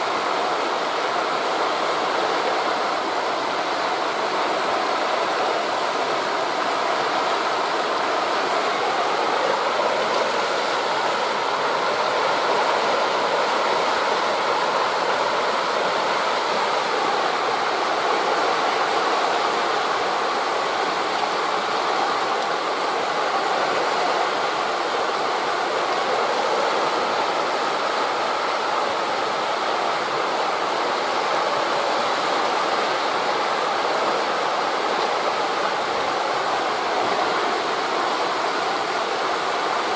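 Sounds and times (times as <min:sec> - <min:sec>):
sea waves washing: 0:00.0 - 0:39.9
wind through leaves: 0:00.0 - 0:39.9.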